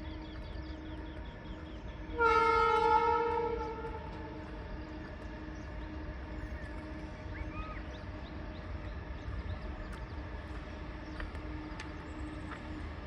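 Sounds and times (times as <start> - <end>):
goods train rumbling past: 0.0 - 13.0.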